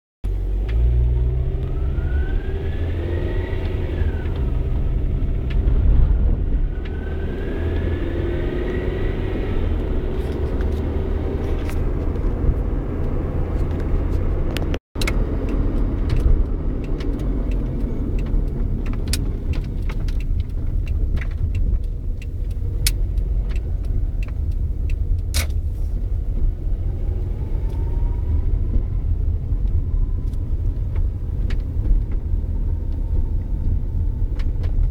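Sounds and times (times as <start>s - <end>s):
car engine and road rumble: 0.2s - 34.9s
rising whine from car: 0.3s - 21.2s, 21.9s - 34.9s.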